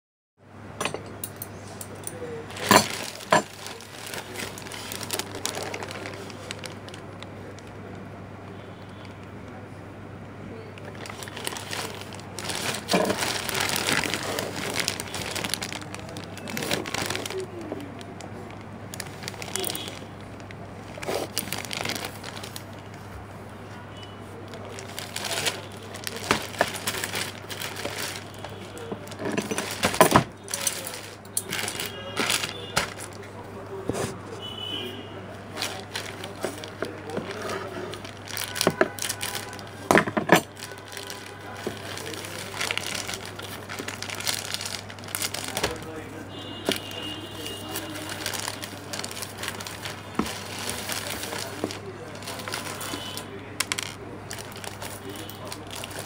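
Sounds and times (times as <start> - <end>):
packaging clicks and rustles: 1.9 - 8.1, 10.5 - 23.2, 24.2 - 34.5, 35.4 - 56.0.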